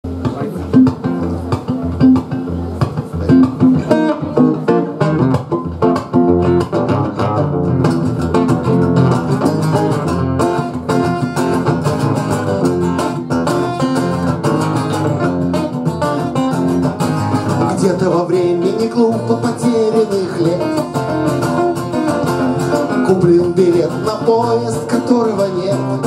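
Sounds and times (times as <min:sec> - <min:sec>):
acoustic guitars playing: 0:00.1 - 0:26.0.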